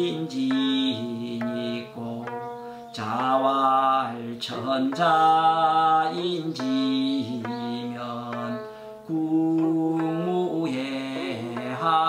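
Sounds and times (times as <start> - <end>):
man chanting: 0.0 - 12.0
soft instrumental accompaniment: 0.0 - 12.0.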